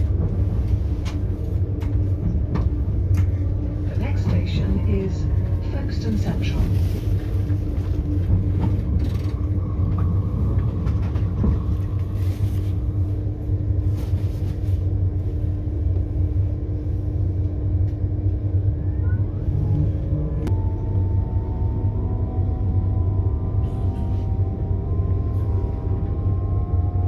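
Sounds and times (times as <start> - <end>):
constant hum: 0.0 - 27.0
train rumbling along track: 0.0 - 27.0.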